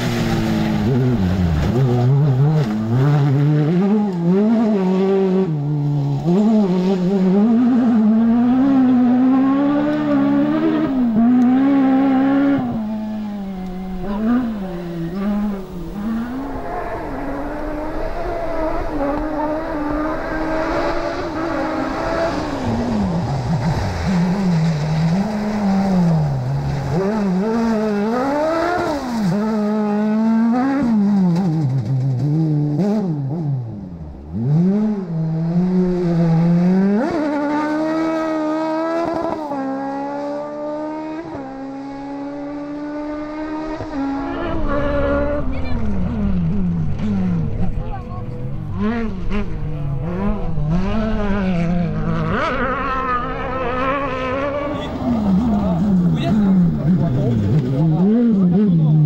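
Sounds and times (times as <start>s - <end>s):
buggy engine revving hard: 0.0s - 59.0s.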